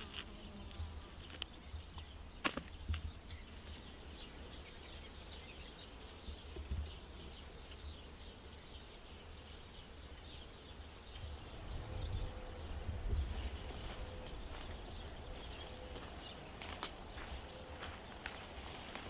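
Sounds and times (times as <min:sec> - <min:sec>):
bird singing repeated notes: 0:00.0 - 0:18.6.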